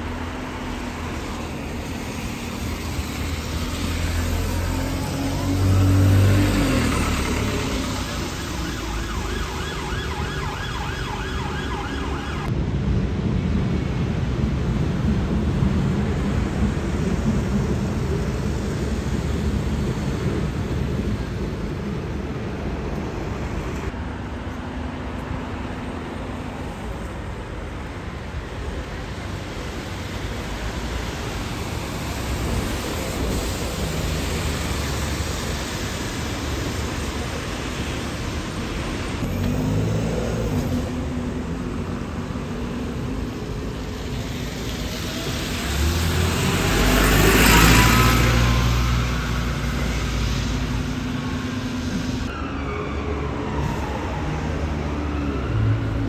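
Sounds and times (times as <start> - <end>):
bus engine pulling away: 0.0 - 56.0
buses and cars passing: 0.0 - 56.0.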